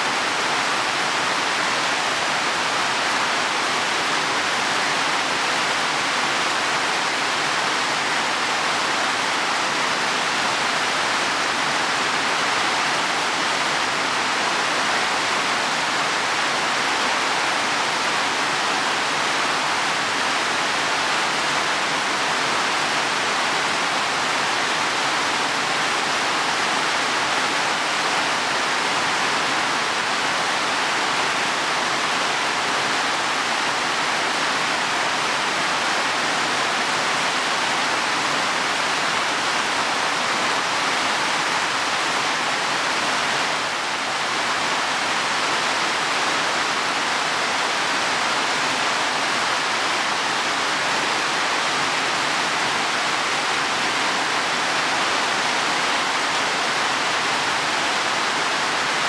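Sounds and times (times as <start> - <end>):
heavy rain on leaves and soil: 0.0 - 59.0.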